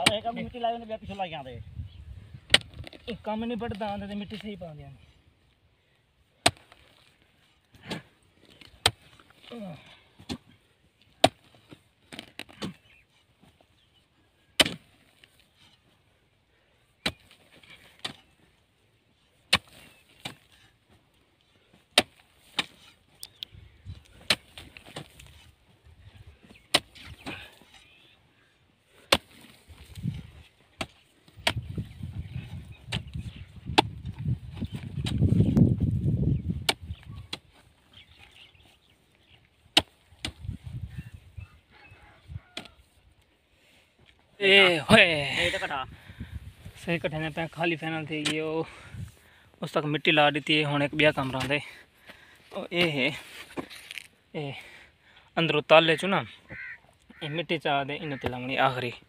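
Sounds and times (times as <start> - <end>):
hoes chopping into dry soil: 0.0 - 1.3, 2.3 - 4.7, 6.4 - 13.8, 14.4 - 16.0, 16.9 - 28.2, 28.8 - 43.2, 44.0 - 54.2, 58.0 - 59.0.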